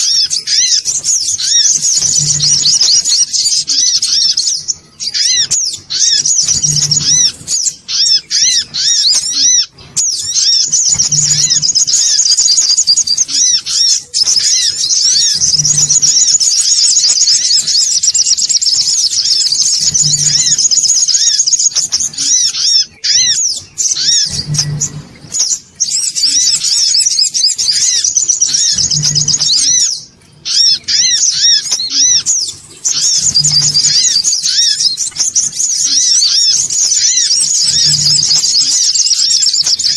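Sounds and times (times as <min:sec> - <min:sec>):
sunbird chattering song: 0:00.0 - 0:39.9.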